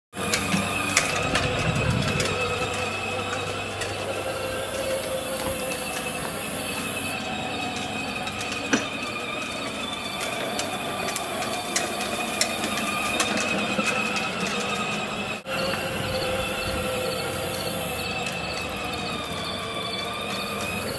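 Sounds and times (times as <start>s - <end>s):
clicks from wheels and body: 0.2s - 20.9s
toy tractor motor whining: 0.2s - 20.9s.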